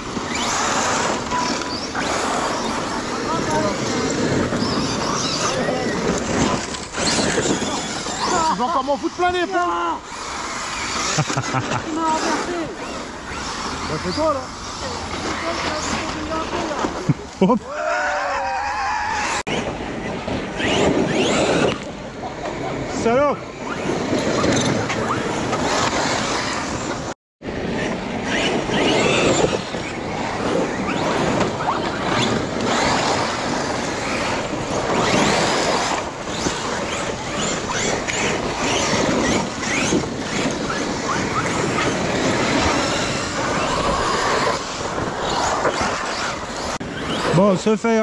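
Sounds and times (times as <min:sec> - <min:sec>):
electric motors whining: 0:00.0 - 0:22.6, 0:27.8 - 0:48.0
tyres on loose ground: 0:00.0 - 0:48.0.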